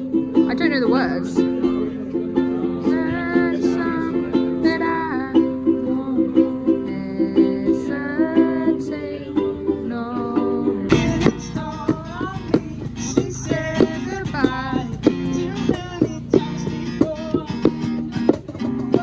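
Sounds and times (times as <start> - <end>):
acoustic guitar strumming: 0.0 - 19.0
ukulele strumming: 0.0 - 19.0
man singing: 0.5 - 19.0.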